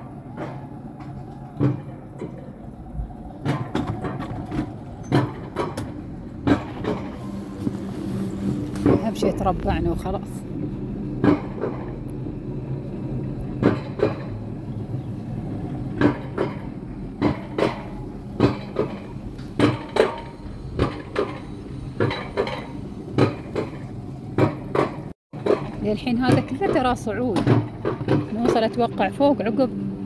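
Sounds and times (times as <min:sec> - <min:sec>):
sled hauled up track rumbling: 0:00.0 - 0:30.0.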